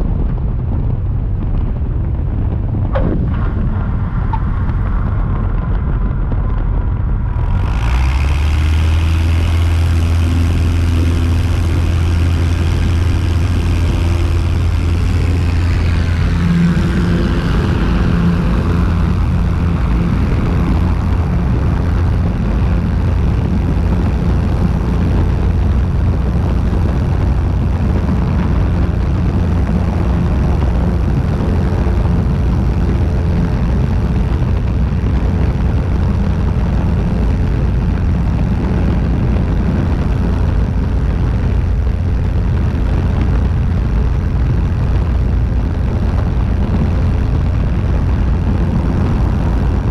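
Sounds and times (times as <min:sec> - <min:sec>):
propeller aircraft engine in flight: 0:00.0 - 0:49.9.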